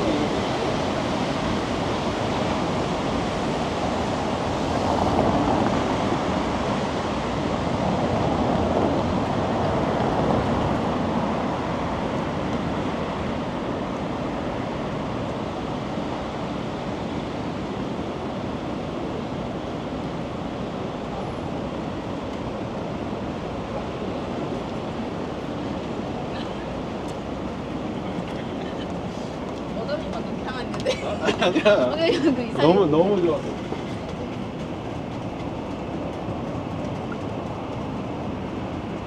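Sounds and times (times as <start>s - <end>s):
city street rushing noise: 0.0s - 39.0s.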